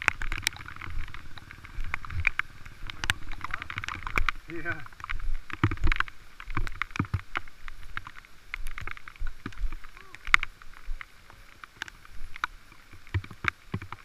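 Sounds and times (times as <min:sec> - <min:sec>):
raindrops tapping on camera case: 0:00.0 - 0:14.0.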